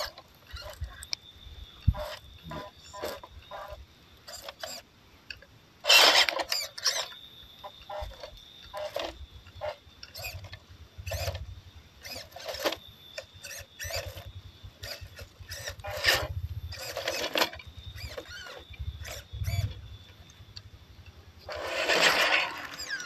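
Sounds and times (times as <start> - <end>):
small electric motor whining: 0.0 - 4.9, 5.8 - 20.7, 21.4 - 23.0.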